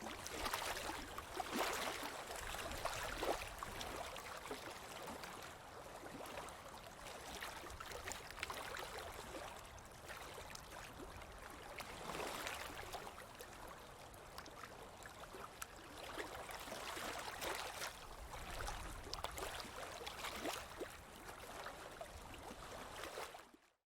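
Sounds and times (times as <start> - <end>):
lake water lapping and splashing: 0.0 - 23.7.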